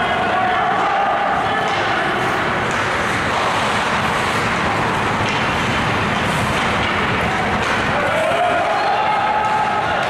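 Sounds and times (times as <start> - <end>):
ice hockey arena din: 0.0 - 10.0.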